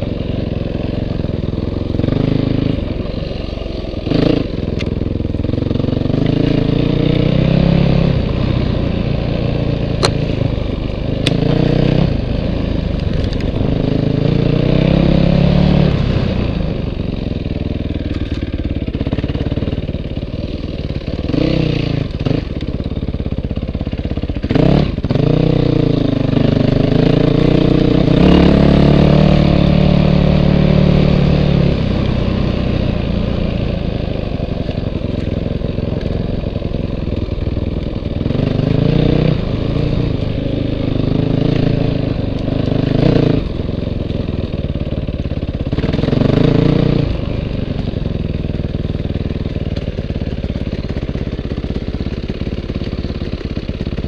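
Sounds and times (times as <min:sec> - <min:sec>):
dirt bike engine revving: 0:00.0 - 0:17.1, 0:18.6 - 0:23.0, 0:24.0 - 0:54.0.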